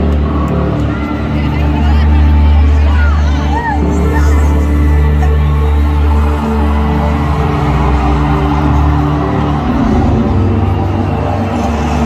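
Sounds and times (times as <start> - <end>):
droning intro music over loudspeakers: 0.0 - 12.0.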